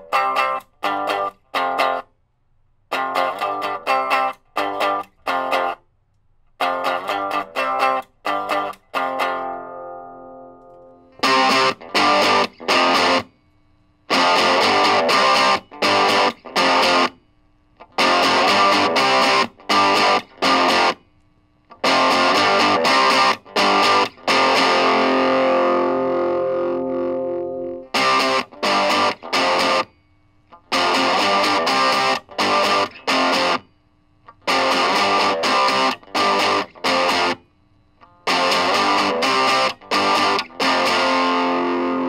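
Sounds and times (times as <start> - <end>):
distorted electric guitar chords: 0.0 - 2.1, 2.9 - 5.8, 6.6 - 13.4, 14.1 - 17.2, 17.8 - 21.1, 21.7 - 42.0.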